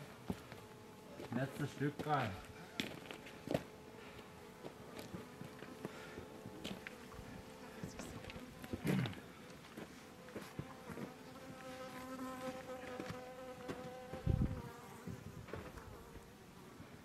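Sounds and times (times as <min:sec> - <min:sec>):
flying insect buzzing: 0:00.0 - 0:16.7.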